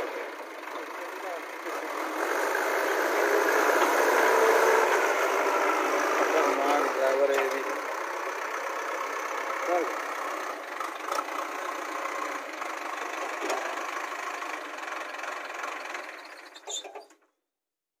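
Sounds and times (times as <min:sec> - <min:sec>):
diesel engine running: 0:00.0 - 0:16.8.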